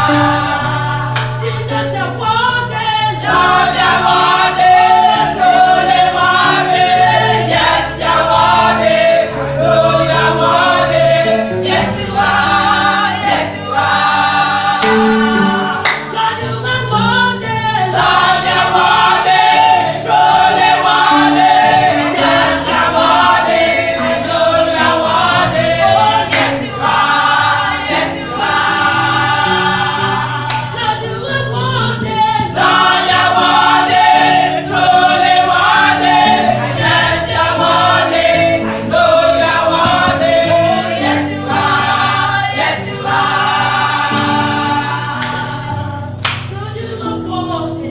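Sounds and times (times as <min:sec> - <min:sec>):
choir singing gospel song: 0:00.0 - 0:47.9.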